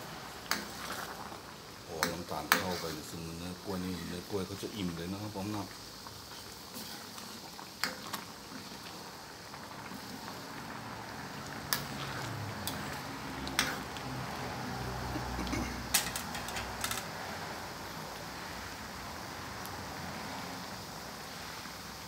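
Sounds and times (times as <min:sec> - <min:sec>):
syrup boiling: 0:00.0 - 0:22.0.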